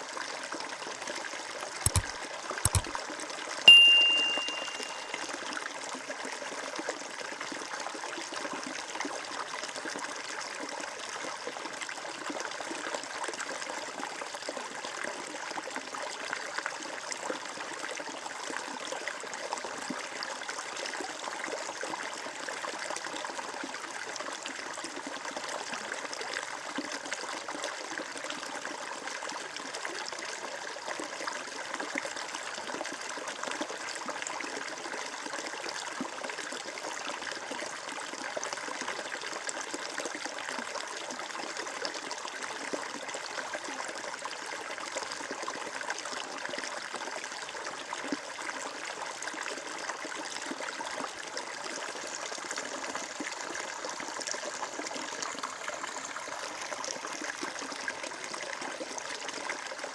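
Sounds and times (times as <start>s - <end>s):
water trickling and babbling: 0.0s - 59.9s.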